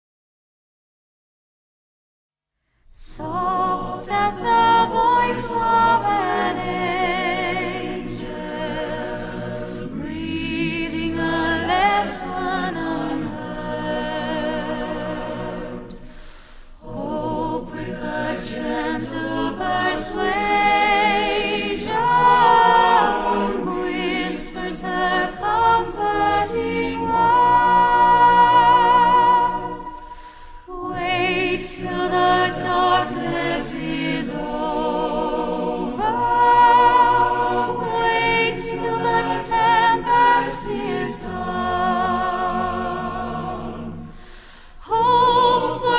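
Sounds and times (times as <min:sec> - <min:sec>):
a cappella choir singing: 0:02.9 - 0:45.9.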